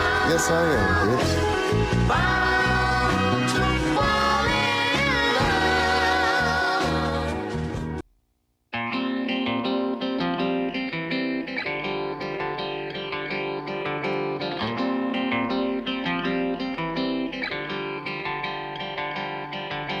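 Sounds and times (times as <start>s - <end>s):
plucked guitar music: 0.0s - 6.7s, 8.8s - 20.0s.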